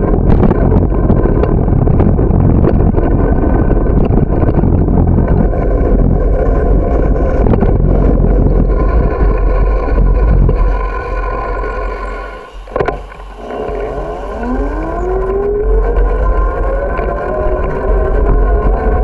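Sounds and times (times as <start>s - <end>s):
bicycle road rumble: 0.0s - 19.0s
rising whine: 0.0s - 19.0s
wind buffeting microphone: 0.0s - 19.0s.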